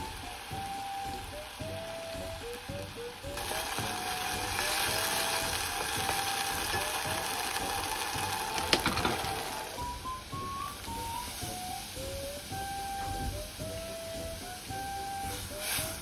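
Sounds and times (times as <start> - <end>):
light background music: 0.0 - 16.0
sauce sizzling and bubbling in pot: 0.0 - 16.0.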